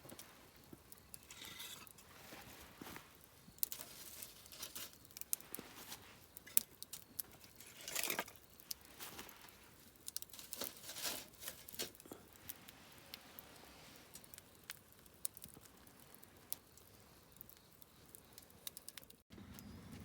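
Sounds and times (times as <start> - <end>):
fire hissing: 0.0 - 19.7
campfire crackling: 0.0 - 20.0.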